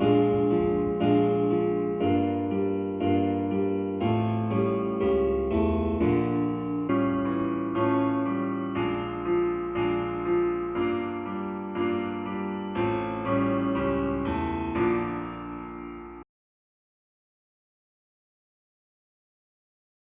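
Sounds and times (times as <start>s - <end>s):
piano music through speakers: 0.0s - 16.2s.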